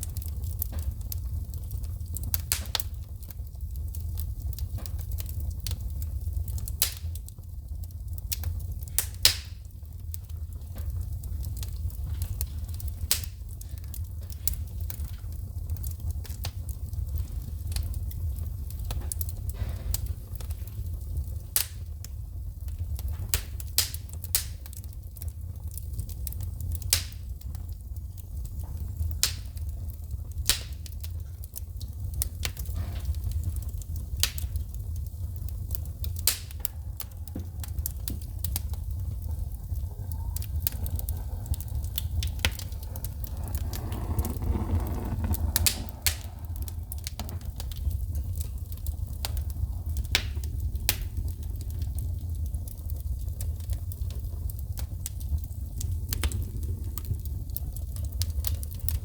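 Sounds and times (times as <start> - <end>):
fireplace fire crackling: 0.0 - 59.0
low fire rumble: 0.0 - 59.0.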